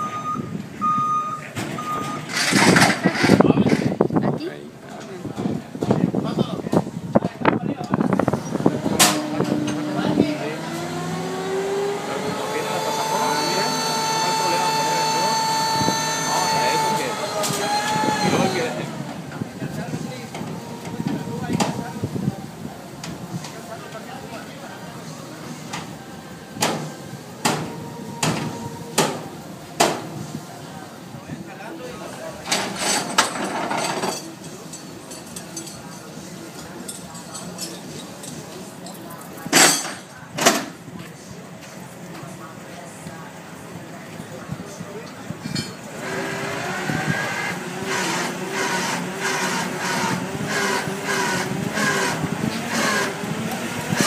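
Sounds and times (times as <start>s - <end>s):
outdoor noise: 0.0s - 54.0s.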